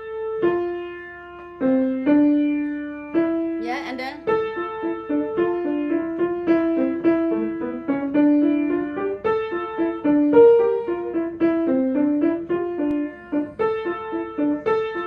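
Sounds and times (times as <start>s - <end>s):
piano repeated notes: 0.0s - 15.0s.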